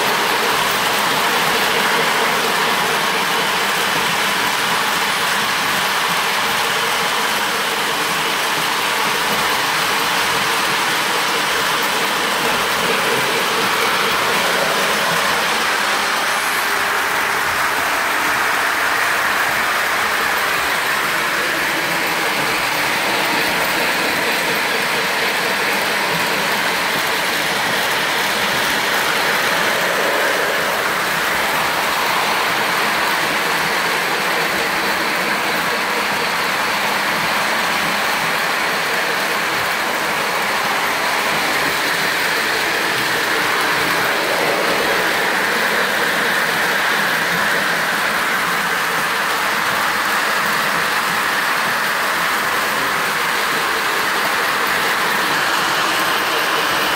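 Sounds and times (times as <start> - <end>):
toy trains rattling on track: 0.0 - 56.9.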